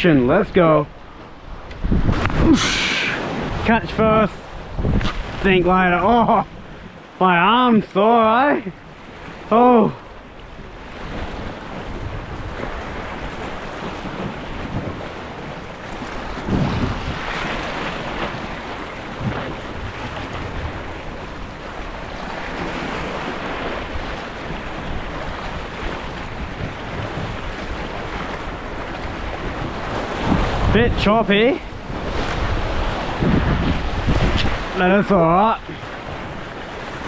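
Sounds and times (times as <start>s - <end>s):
wind buffeting microphone: 0.0s - 7.2s, 8.7s - 37.0s
waves breaking on rocks: 0.0s - 37.0s.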